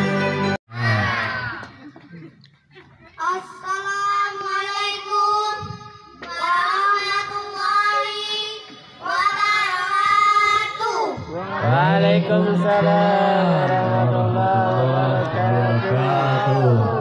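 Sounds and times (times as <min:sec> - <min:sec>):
children singing long notes: 0:03.4 - 0:17.0.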